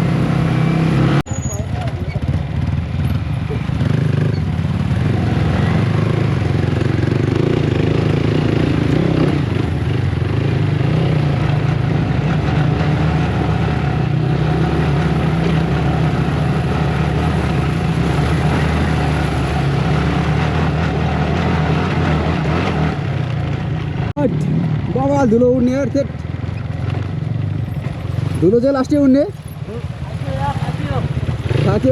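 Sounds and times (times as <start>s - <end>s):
motorcycle engine cruising: 0.0s - 31.9s
road and wind noise: 0.0s - 31.9s.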